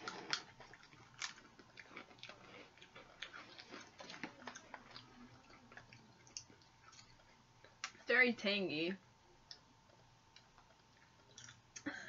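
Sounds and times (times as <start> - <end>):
crunchy chewing: 0.0 - 8.0, 9.4 - 11.9.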